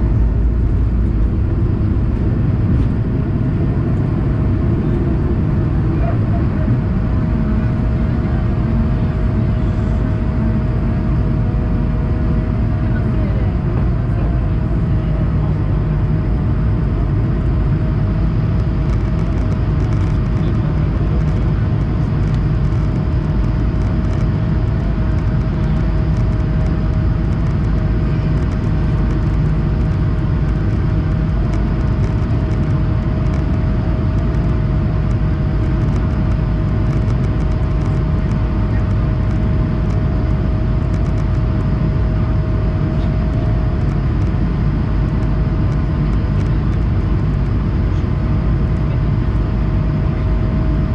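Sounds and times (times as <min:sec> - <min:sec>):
aircraft cabin engine noise: 0:00.0 - 0:50.9
steady hum: 0:00.0 - 0:50.9.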